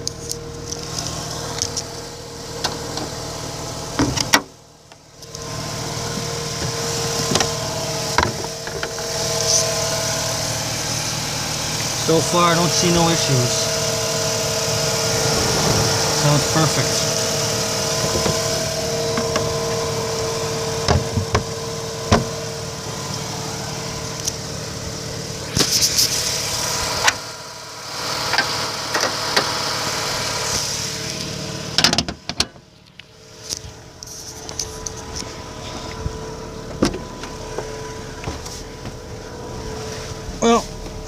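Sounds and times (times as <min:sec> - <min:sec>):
rotary engine idling: 0:00.0 - 0:41.0.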